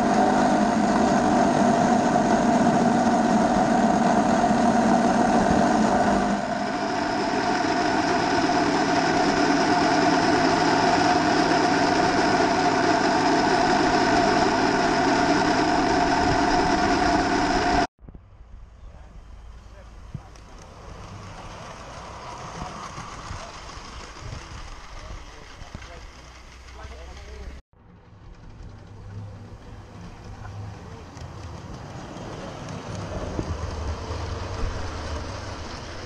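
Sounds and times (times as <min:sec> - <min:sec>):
miniature train running hum: 0:00.0 - 0:17.9, 0:19.3 - 0:36.0.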